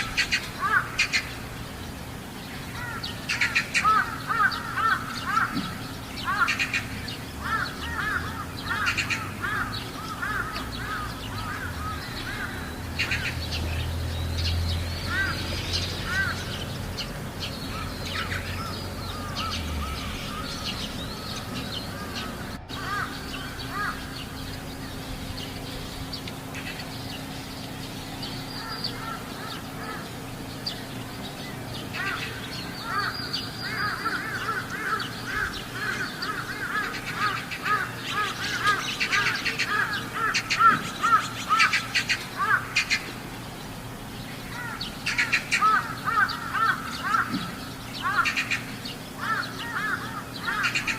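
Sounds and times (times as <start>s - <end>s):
crows cawing: 0.0s - 1.4s, 2.7s - 13.5s, 15.0s - 25.0s, 28.5s - 30.2s, 31.8s - 43.2s, 44.5s - 50.9s.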